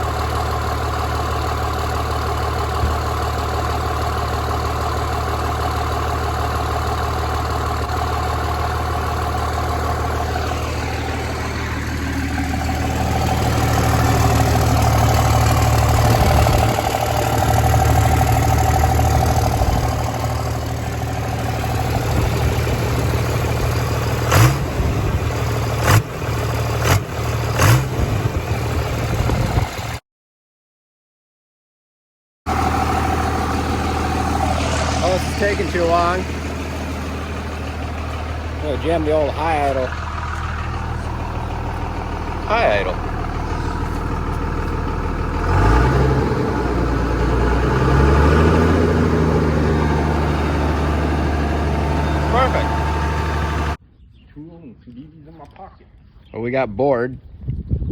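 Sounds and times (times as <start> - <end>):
truck engine idling: 0.0 - 30.0, 32.5 - 53.8.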